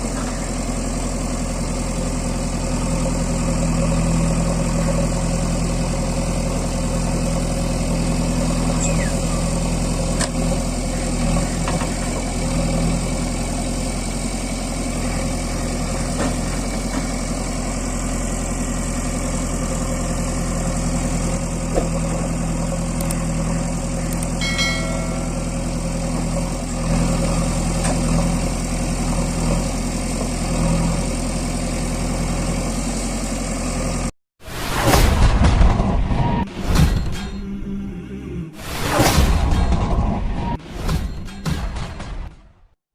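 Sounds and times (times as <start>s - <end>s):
diesel engine running: 0.0s - 38.6s.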